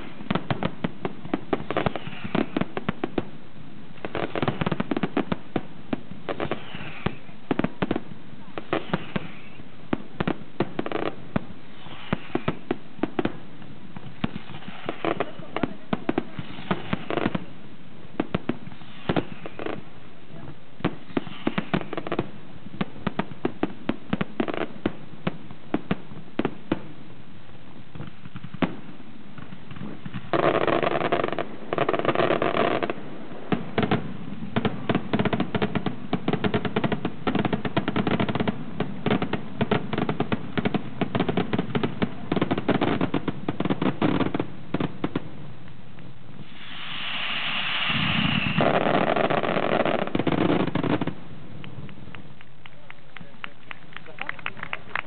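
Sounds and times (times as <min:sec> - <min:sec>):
firework bangs and crackles: 0:00.0 - 0:55.0.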